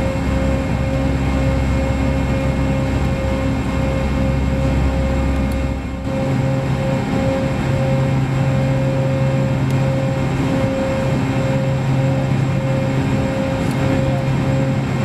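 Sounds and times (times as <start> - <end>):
boat turbines humming: 0.0 - 15.0.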